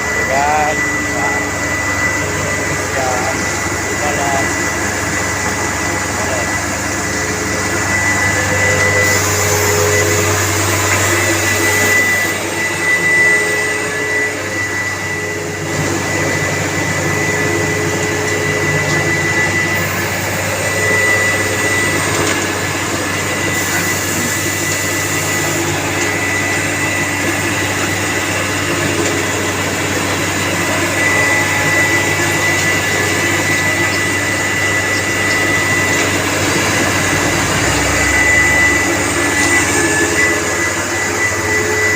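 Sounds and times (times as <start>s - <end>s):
loud mechanical drone: 0.0s - 41.9s
steady high whine: 0.0s - 41.9s.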